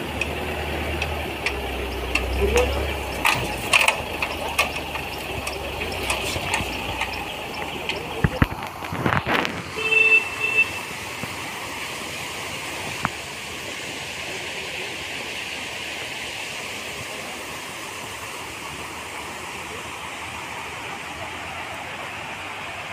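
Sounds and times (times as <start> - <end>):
floodwater rushing: 0.0 - 22.9.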